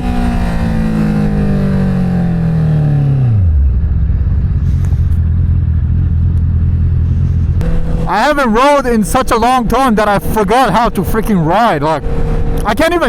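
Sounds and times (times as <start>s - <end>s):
motorcycle engine slowing: 0.0s - 13.0s.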